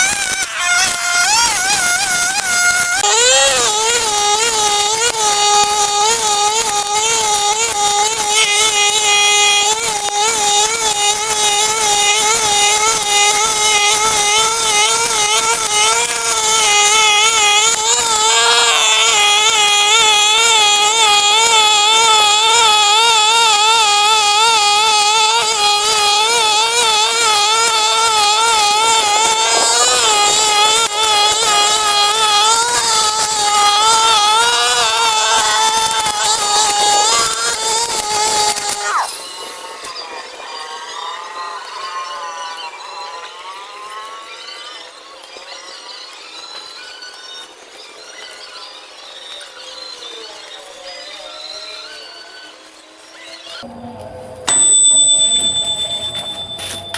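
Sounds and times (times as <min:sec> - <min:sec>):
brush cutter engine whining: 0:00.0 - 0:54.1.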